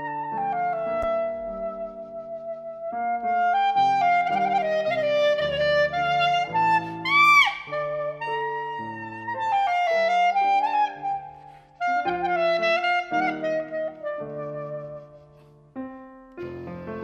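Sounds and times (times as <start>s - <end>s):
slow instrumental music: 0.0s - 17.0s.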